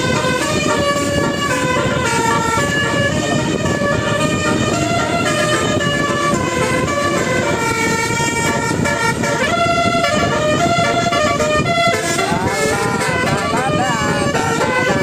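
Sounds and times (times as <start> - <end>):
bus horn playing a tune: 0.0 - 15.0.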